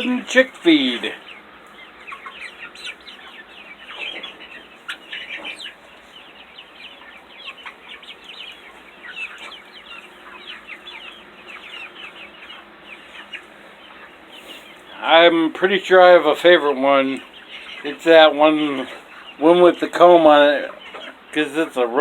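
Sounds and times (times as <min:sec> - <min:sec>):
chickens clucking and peeping: 0:00.0 - 0:22.0.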